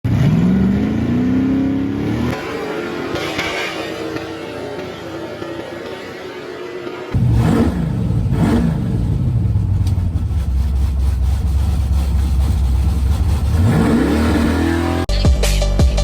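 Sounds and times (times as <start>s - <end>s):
drag race car engine running: 0.0s - 15.1s.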